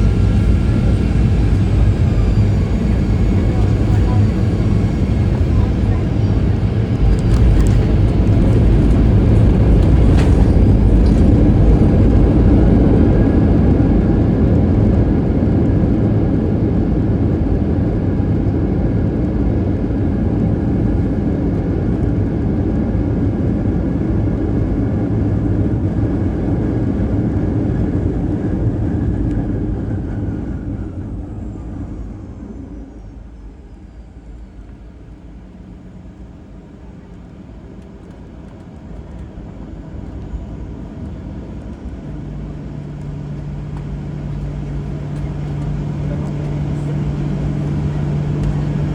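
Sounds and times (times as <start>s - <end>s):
jet engine whine spooling down: 0.0s - 48.9s
jet engines roaring: 0.0s - 48.9s.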